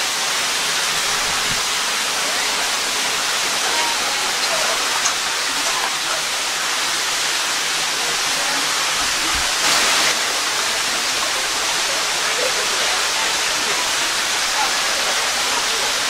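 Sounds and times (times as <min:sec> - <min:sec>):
water rushing in canyon: 0:00.0 - 0:16.0.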